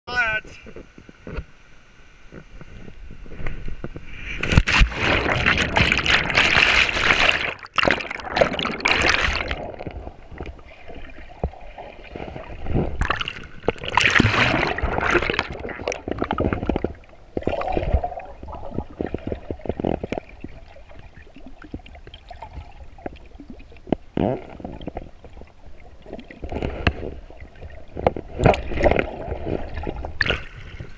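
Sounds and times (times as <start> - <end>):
muffled underwater splashing: 2.3 - 30.9.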